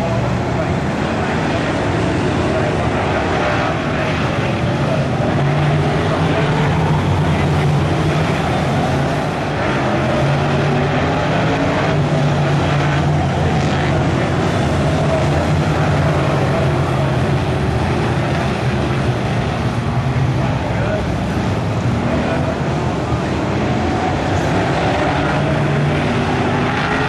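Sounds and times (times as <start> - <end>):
racing car engines droning: 0.0 - 27.0.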